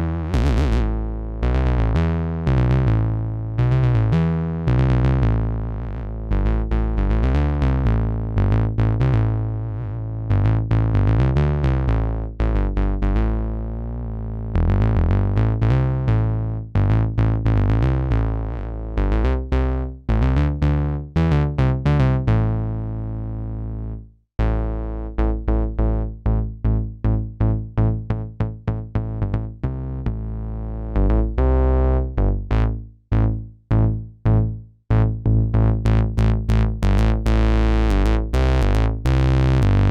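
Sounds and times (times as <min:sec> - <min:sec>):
bassy synthesizer sequence: 0:00.0 - 0:39.9
plucky synthesizer notes: 0:00.0 - 0:39.9.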